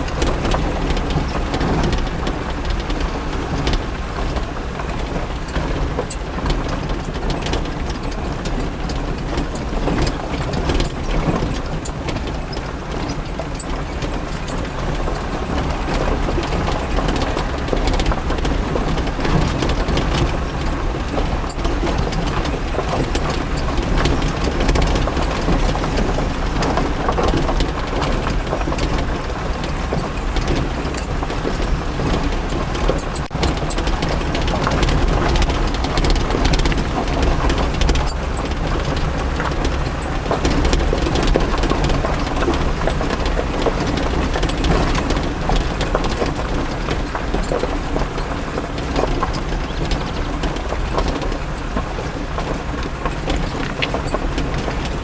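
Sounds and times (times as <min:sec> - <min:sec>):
rattles and knocks: 0:00.0 - 0:55.0
vehicle engine running: 0:00.0 - 0:55.0.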